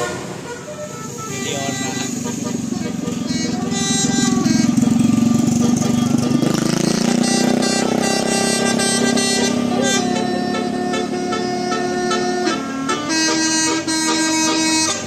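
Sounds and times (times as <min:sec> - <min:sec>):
engine running: 0:00.0 - 0:15.0
musical vehicle horn playing a tune: 0:00.0 - 0:15.0.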